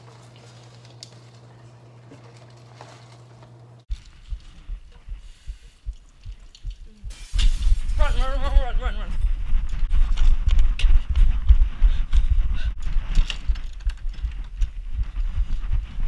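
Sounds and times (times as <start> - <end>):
steady low hum: 0.8 - 16.0.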